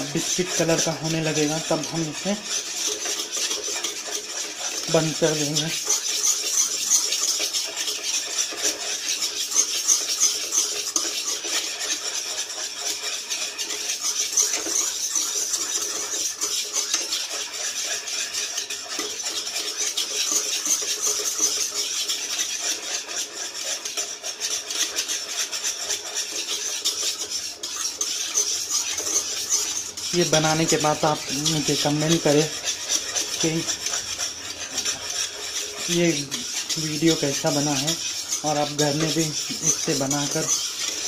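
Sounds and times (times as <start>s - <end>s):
utensil scraping a pan: 0.0s - 41.0s.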